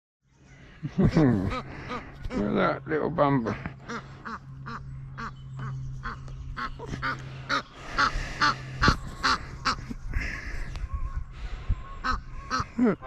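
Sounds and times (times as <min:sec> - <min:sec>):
waterfowl calling: 0:00.6 - 0:02.5, 0:03.4 - 0:13.0.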